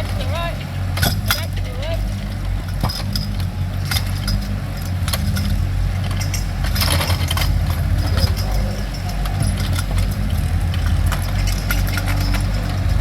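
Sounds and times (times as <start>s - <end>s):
excavator engine running: 0.0s - 13.0s
metal clanks and knocks: 0.0s - 13.0s
rattling burst: 0.0s - 13.0s.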